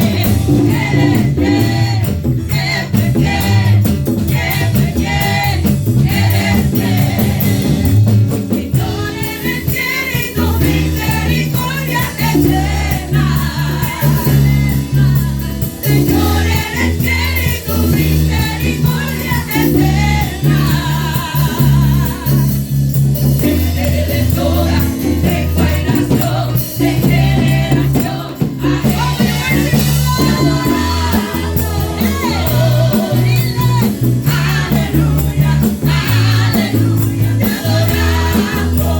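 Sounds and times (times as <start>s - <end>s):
band with steady bass: 0.0s - 38.9s
voices singing praise song: 0.0s - 38.9s.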